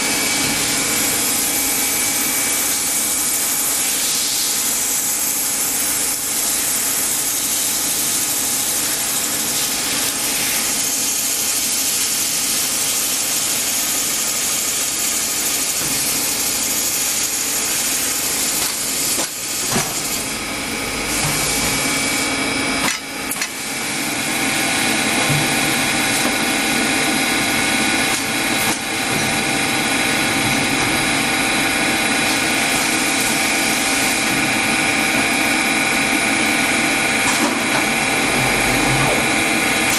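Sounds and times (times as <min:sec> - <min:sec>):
machine tool running: 0:00.0 - 0:39.9.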